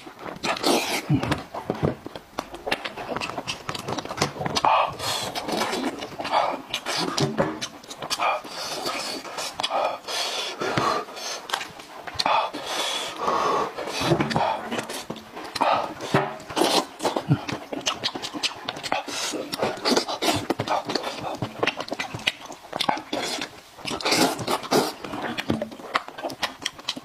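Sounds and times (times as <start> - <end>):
slurping: 0.0 - 1.8, 2.4 - 27.0
chewing: 0.0 - 27.0
lip smacking: 0.0 - 27.0.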